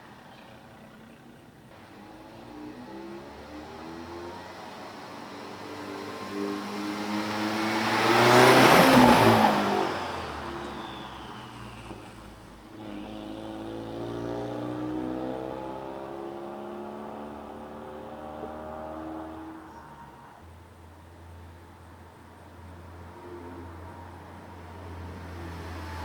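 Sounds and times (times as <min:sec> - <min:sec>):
car driving past: 0:01.8 - 0:20.4, 0:22.7 - 0:26.0.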